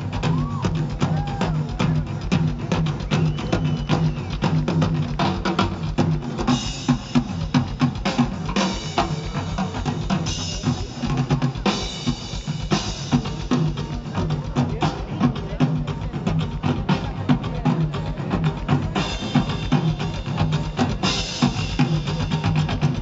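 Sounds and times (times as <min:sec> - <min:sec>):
drum kit played fast: 0:00.0 - 0:23.0.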